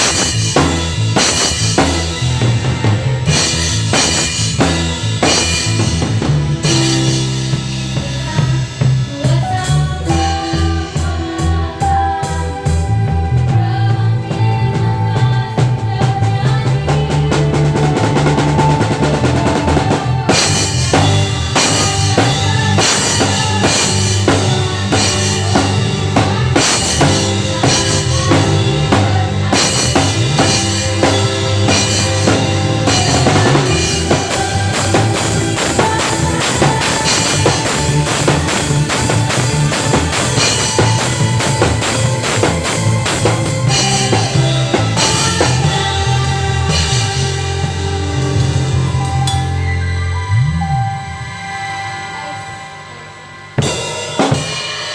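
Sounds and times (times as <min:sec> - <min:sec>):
cymbals: 0:00.0 - 0:13.0, 0:17.6 - 0:50.0, 0:51.1 - 0:54.9
drum kit: 0:00.0 - 0:54.9
live band playing: 0:00.0 - 0:54.9.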